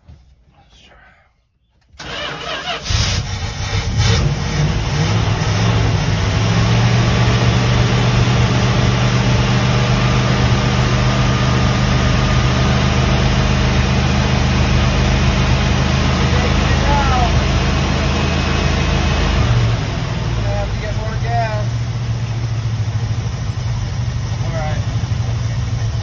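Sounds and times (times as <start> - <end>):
engine idling: 2.0 - 26.0.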